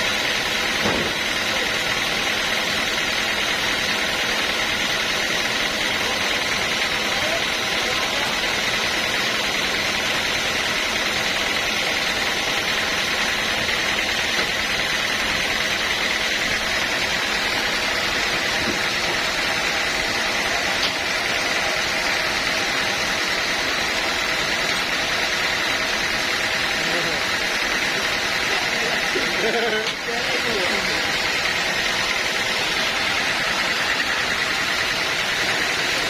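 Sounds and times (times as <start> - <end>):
sawmill machinery drone: 0.0 - 36.0.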